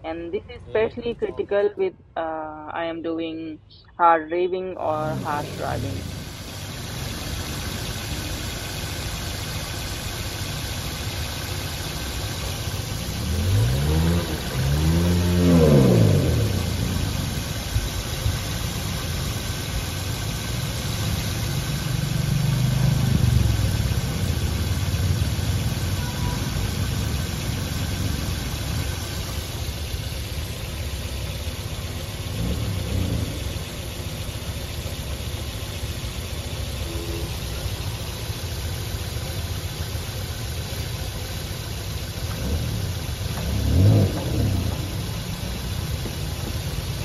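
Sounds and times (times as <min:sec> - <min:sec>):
car engine idling and revving: 0:04.4 - 0:47.0.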